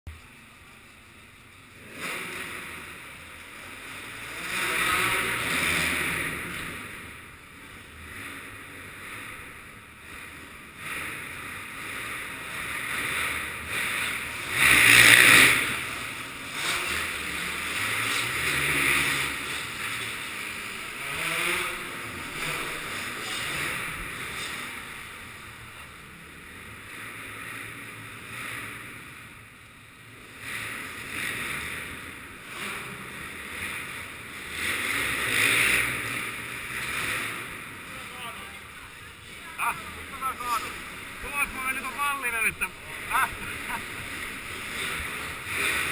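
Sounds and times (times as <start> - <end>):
off-road motorcycle engines revving: 0.1 - 45.9.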